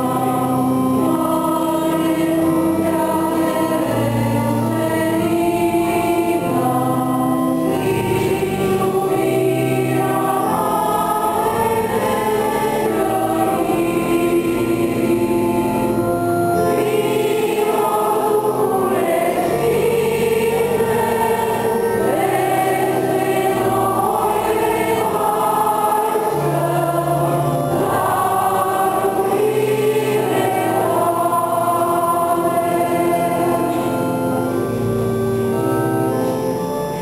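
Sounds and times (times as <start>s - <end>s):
church choir singing a hymn: 0.0s - 37.0s.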